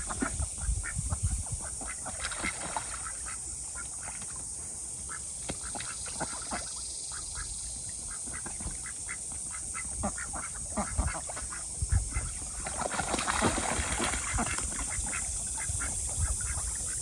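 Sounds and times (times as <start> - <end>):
ducks quacking: 0.0 - 4.4, 5.1 - 12.6, 13.4 - 17.0.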